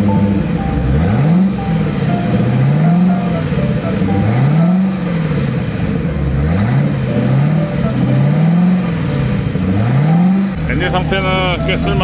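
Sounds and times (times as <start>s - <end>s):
boat engine revving: 0.0s - 12.0s.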